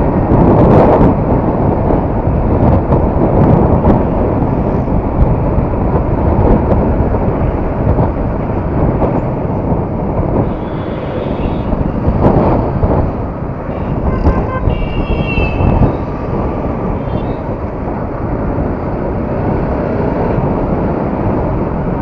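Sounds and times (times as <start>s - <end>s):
motorcycle engine and road noise: 0.0s - 22.0s
wind rushing over microphone: 0.0s - 22.0s.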